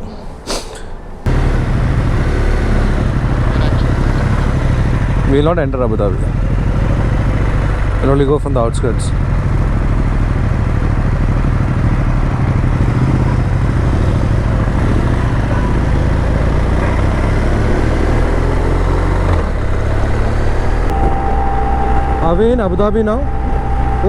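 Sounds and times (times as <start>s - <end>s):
wind and road noise: 0.0s - 24.0s
motorcycle engine cruising: 1.2s - 24.0s.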